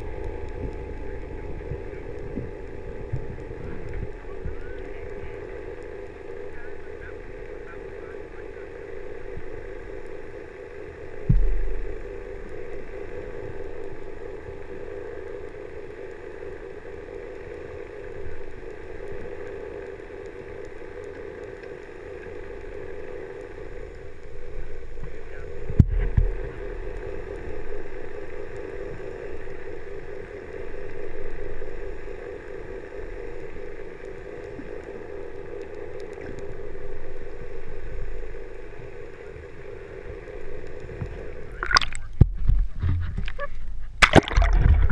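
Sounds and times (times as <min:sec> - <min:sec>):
low underwater hum: 0:00.0 - 0:44.9.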